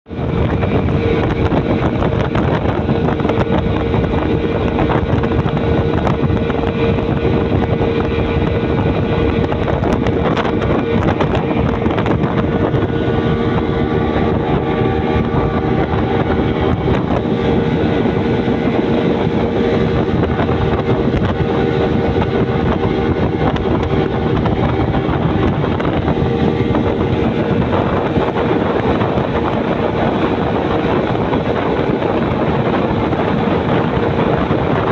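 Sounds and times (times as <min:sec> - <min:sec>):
rushing water noise: 0:00.0 - 0:34.9
speedboat engine hum: 0:00.0 - 0:34.9.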